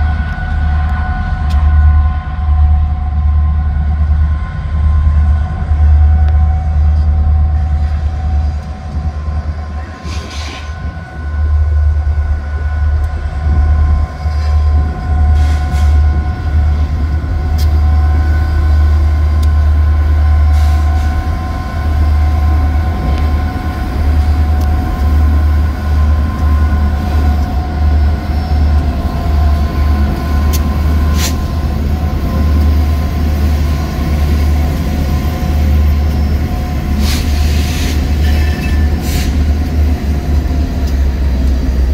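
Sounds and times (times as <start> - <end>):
freight train engines rumbling: 0.0 - 41.9.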